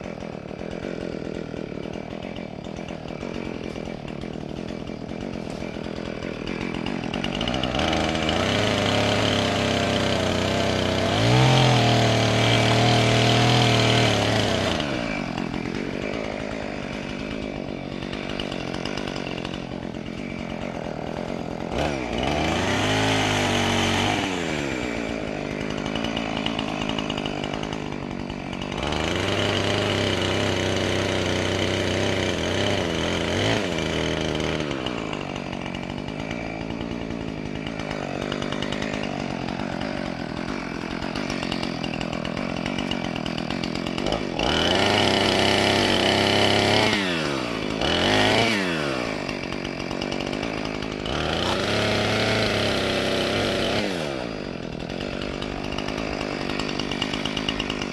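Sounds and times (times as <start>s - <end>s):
chainsaw revving: 0.0s - 57.9s.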